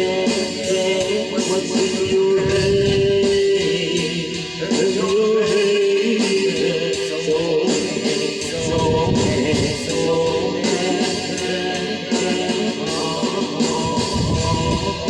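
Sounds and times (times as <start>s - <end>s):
choir singing long held notes: 0.0s - 15.0s.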